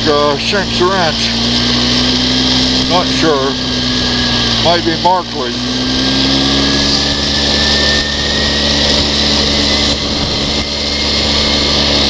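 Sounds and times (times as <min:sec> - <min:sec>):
quad bike engine droning: 0:00.0 - 0:12.0.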